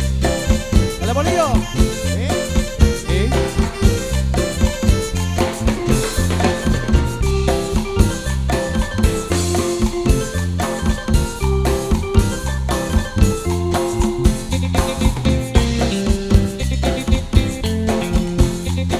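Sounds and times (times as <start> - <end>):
cumbia band playing instrumental: 0.0 - 18.9.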